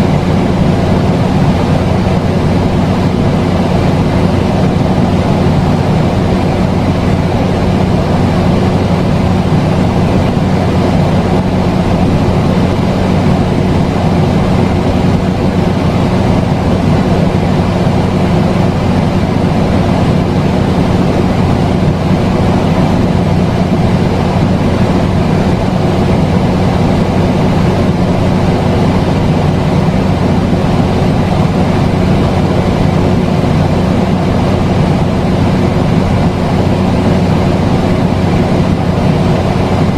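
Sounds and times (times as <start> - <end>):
constant hum: 0.0 - 39.9
low rumbling noise: 0.0 - 39.9.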